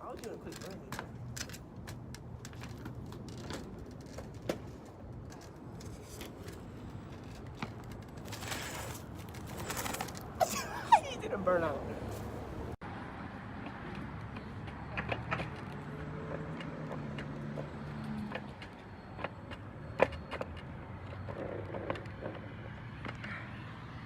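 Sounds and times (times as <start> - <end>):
motor vehicles running: 0.0 - 24.0.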